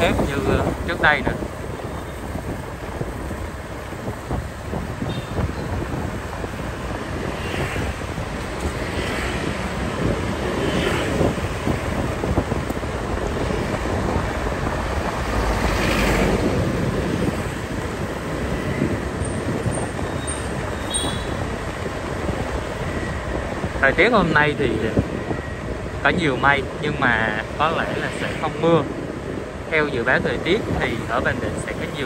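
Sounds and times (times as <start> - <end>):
road and traffic noise: 0.0 - 32.0
vehicles passing: 0.0 - 32.0
wind buffeting microphone: 0.0 - 32.0.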